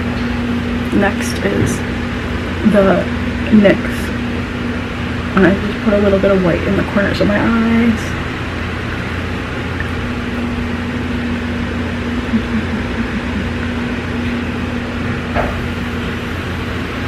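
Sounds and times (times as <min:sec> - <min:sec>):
low machine hum: 0:00.0 - 0:17.0
steady higher tone: 0:00.0 - 0:17.0.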